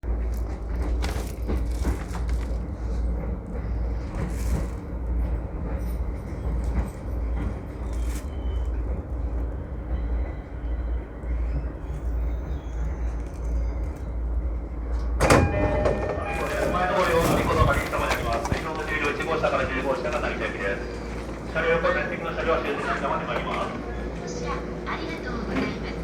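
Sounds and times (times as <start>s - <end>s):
train low rumble and hum: 0.0s - 26.0s.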